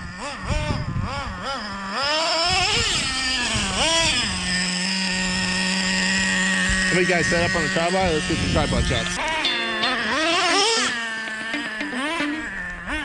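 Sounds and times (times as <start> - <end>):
small nitro engine idling: 0.0 - 13.0
small nitro engine revving: 0.0 - 13.0.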